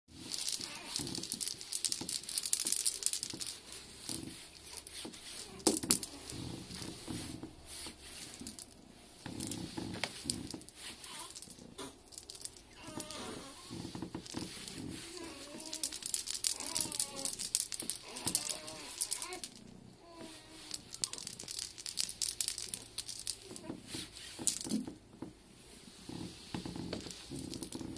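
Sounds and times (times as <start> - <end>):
wand toy crinkling and rustling: 0.1 - 25.1, 26.1 - 27.9.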